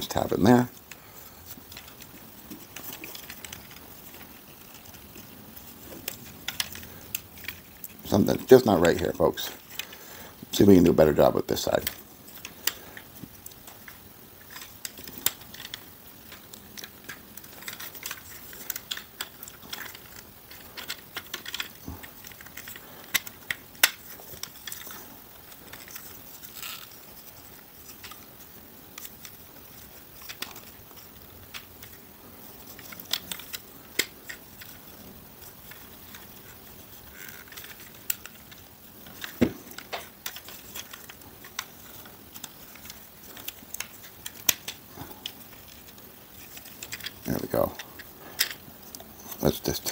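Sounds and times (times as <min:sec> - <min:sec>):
plastic toy parts clicking and snapping: 0:00.4 - 0:10.0, 0:11.3 - 0:49.4.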